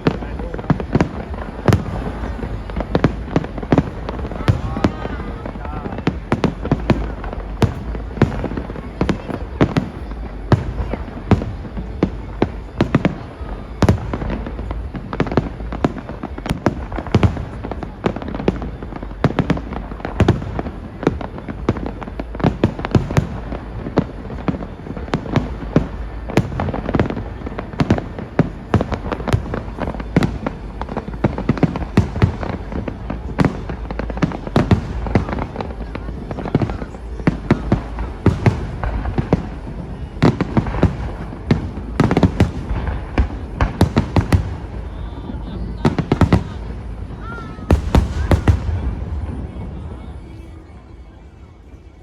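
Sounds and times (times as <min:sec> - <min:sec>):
constant low rumble: 0:00.0 - 0:52.0
fireworks bangs and crackles: 0:00.0 - 0:52.0.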